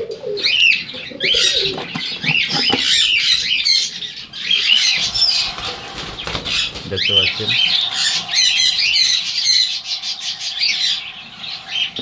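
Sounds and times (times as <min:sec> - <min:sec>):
cockatiels chirping: 0:00.4 - 0:12.0.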